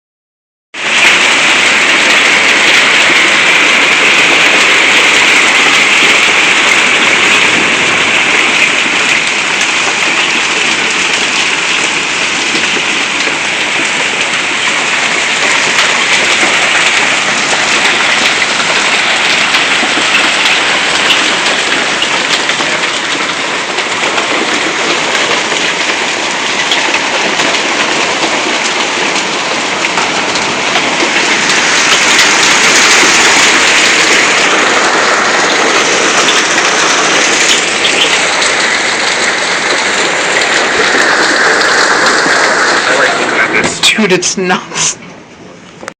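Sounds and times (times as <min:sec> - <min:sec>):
hail falling hard: 0:00.8 - 0:45.0.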